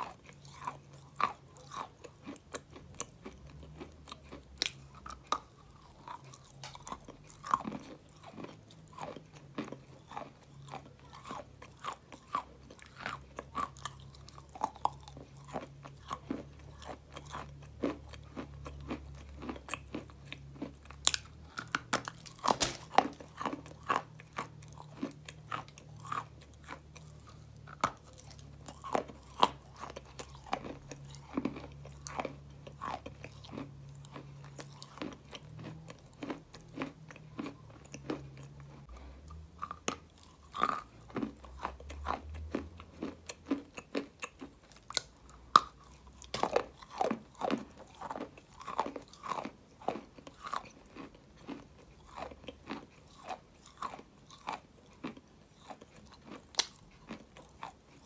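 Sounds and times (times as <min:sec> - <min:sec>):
person chewing crunchy clay: 0:00.0 - 0:58.0.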